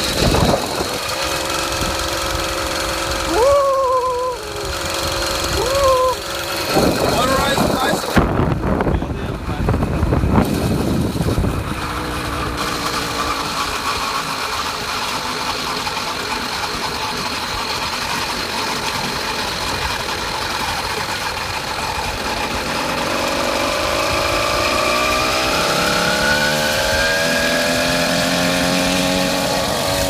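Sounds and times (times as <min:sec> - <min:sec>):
small motorized bicycle engine: 0:00.0 - 0:08.3, 0:10.4 - 0:30.0.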